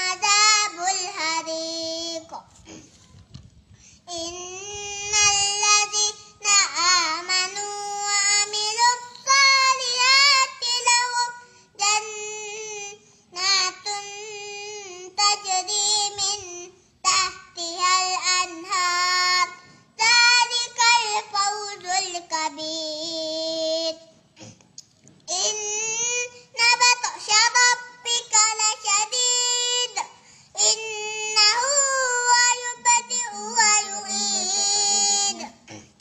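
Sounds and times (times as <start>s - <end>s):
young boy chanting: 0.0s - 3.0s, 4.1s - 24.5s, 25.3s - 36.0s.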